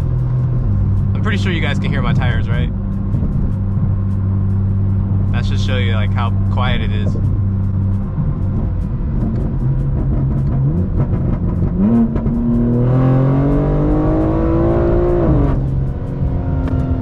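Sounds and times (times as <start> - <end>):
car engine cruising: 0.0 - 17.0.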